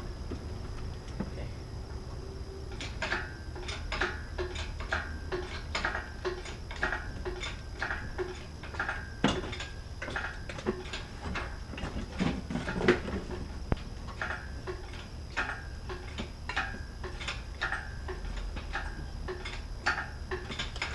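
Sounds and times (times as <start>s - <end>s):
metal clanks: 2.7s - 20.9s.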